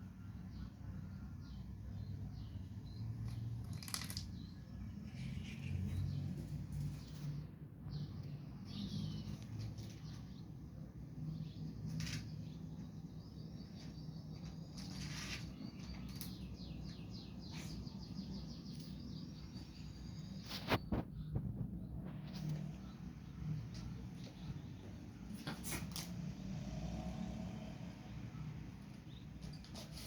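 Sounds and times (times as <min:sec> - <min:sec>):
bird chirping: 0:00.4 - 0:25.5.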